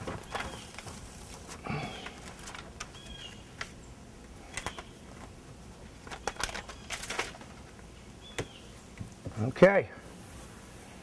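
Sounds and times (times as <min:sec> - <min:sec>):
tape crackling under hand: 0:00.0 - 0:09.1.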